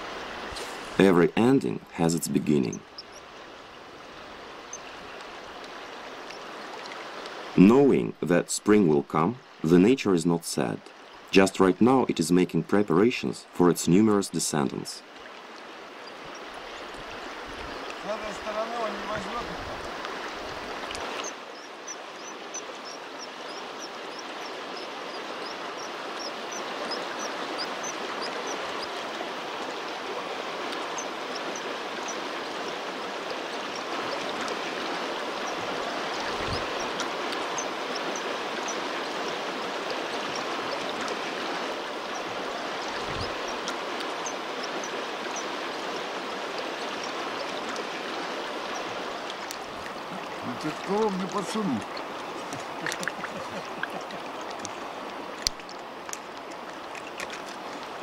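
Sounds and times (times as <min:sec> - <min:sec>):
river rushing over stones: 0:00.0 - 0:12.6, 0:13.2 - 0:58.0.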